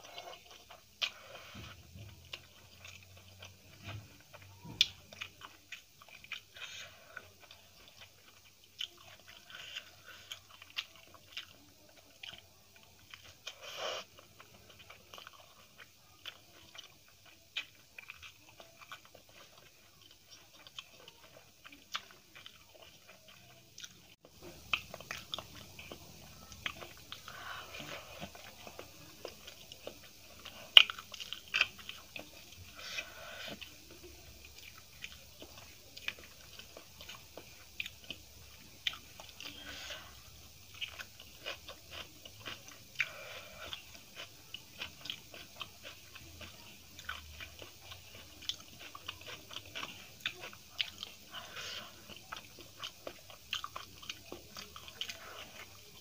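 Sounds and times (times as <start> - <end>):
person chewing rice: 0.0 - 56.0.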